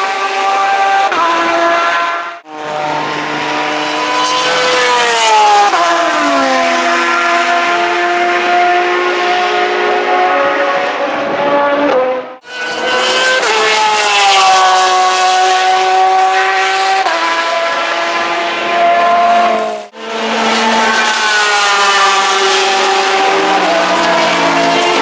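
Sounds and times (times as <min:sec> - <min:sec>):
racing engine at high revs: 0:00.0 - 0:25.0.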